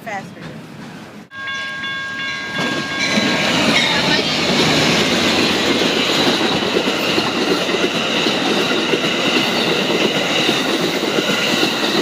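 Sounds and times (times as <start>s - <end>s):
train wheels rumbling on rails: 0.1s - 12.0s.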